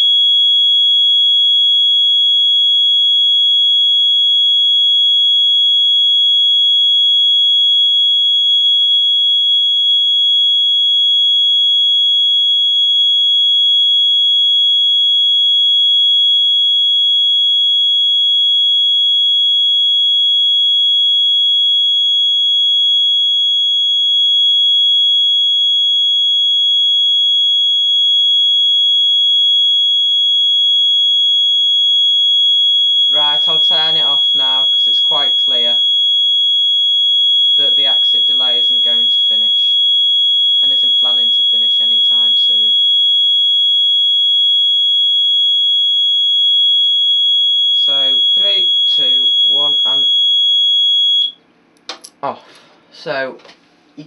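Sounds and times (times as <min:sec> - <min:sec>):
high-pitched alarm buzzer tone: 0:00.0 - 0:51.4.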